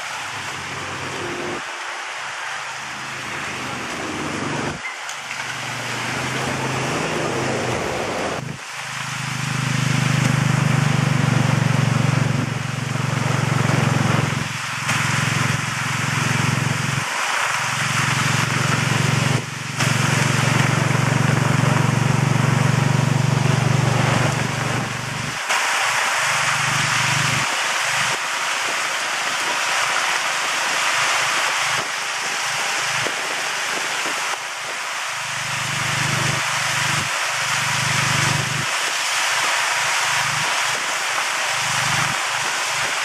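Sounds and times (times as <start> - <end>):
low engine hum: 0.0 - 1.7, 2.5 - 28.8, 31.4 - 43.0
heavy rain hissing: 0.0 - 43.0
wet road noise: 0.0 - 43.0.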